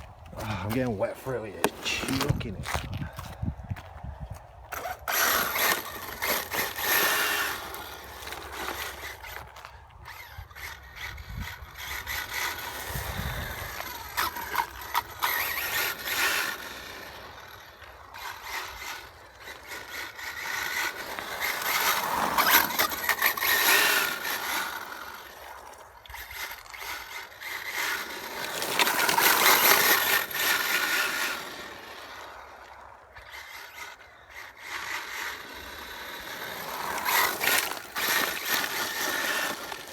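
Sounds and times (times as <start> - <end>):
electric motor whining: 4.7 - 39.9.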